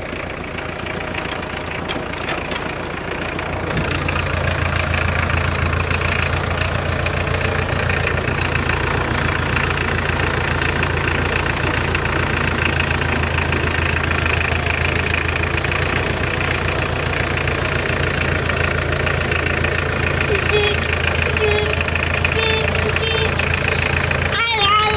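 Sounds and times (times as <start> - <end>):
diesel tractor engine running: 0.0 - 24.9.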